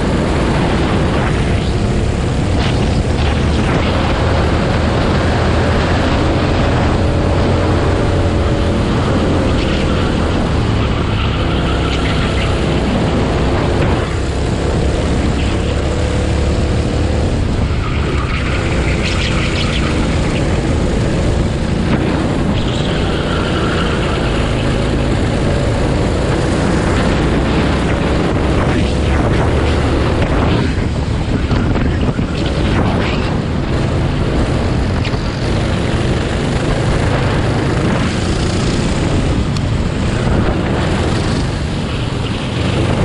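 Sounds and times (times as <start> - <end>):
go-kart engine revving: 0.0 - 43.0.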